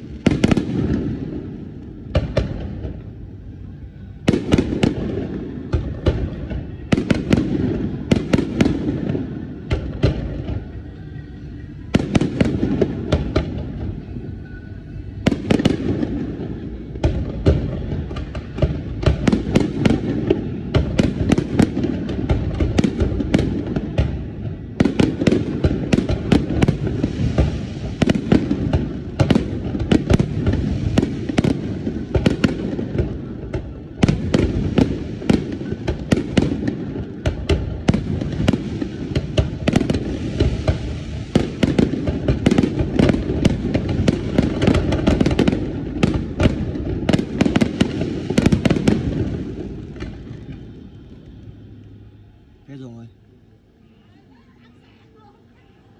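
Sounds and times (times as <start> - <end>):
fireworks cracking and banging: 0.0 - 53.0
continuous low rumble: 0.0 - 55.9.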